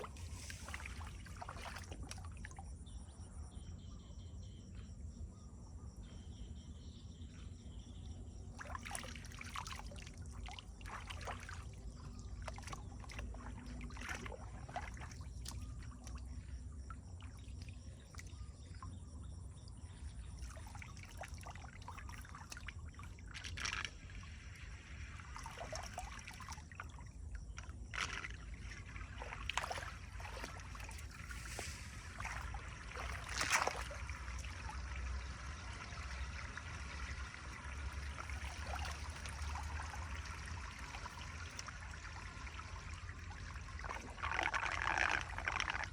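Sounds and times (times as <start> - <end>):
water splashing and sloshing: 0.0 - 3.4, 8.3 - 45.9.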